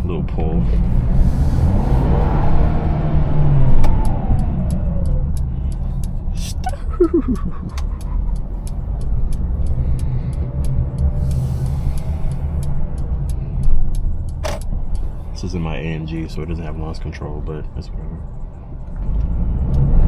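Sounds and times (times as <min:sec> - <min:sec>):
car engine rumble from inside cabin: 0:00.0 - 0:20.0
light steady ticking: 0:03.5 - 0:20.0.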